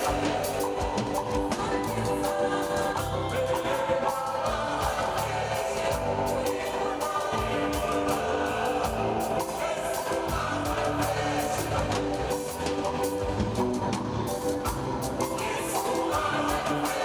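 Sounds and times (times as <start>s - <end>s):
choir singing: 0.0s - 17.0s
instrumental accompaniment with beat: 0.0s - 17.0s.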